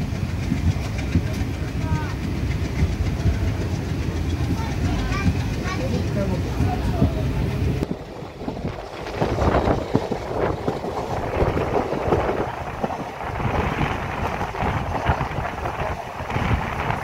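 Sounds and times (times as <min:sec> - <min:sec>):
train coaches rumbling on track: 0:00.0 - 0:17.0
wind buffeting microphone: 0:00.0 - 0:17.0.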